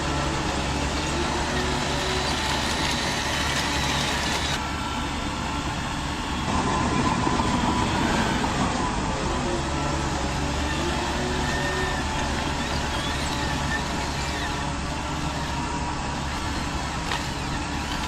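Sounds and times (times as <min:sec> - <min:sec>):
mechanical drone: 0:00.0 - 0:18.0
motor whine: 0:00.0 - 0:18.0.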